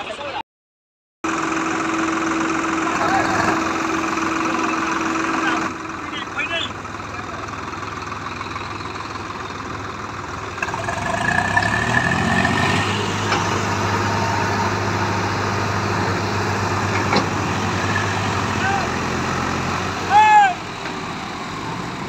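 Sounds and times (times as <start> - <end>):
tractor diesel engine revving: 1.2 - 22.0.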